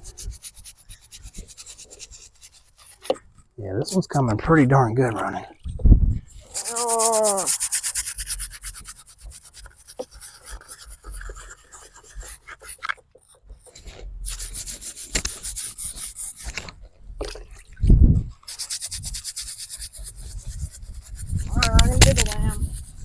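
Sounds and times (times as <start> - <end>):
brush scrubbing stone: 0.0 - 4.2, 6.3 - 23.0.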